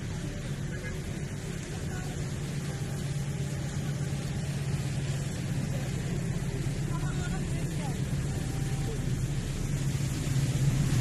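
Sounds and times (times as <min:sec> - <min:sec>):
train engine hum: 0:00.0 - 0:11.0
train rumbling: 0:00.0 - 0:11.0.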